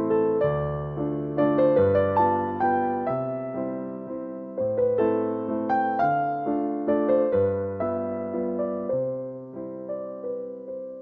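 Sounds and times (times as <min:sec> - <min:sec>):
slow electric piano melody: 0:00.0 - 0:11.0.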